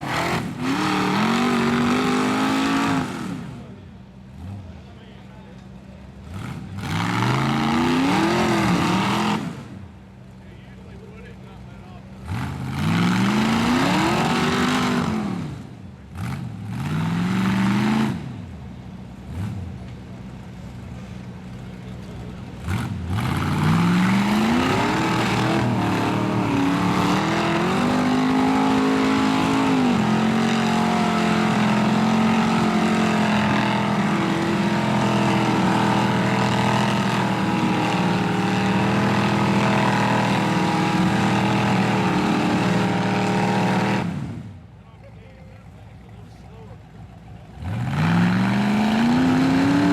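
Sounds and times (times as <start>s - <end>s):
buggy engine revving hard: 0.0s - 4.8s, 6.2s - 10.4s, 12.1s - 19.8s, 22.2s - 44.8s, 47.4s - 49.9s.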